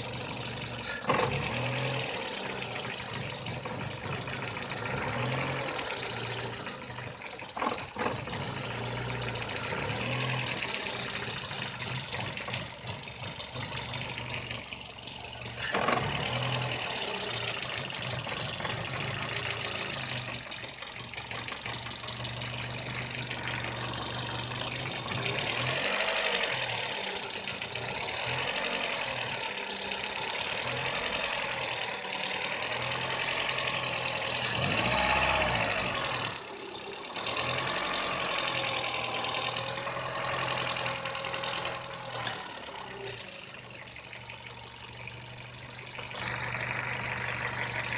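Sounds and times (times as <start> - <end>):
car engine idling roughly: 0.0 - 47.9.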